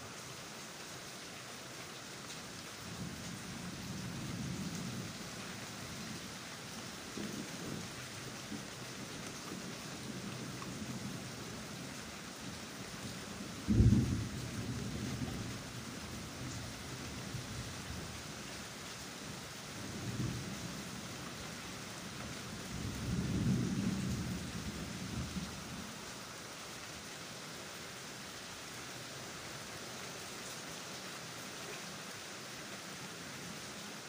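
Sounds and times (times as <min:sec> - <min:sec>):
rain hissing: 0:00.0 - 0:34.0.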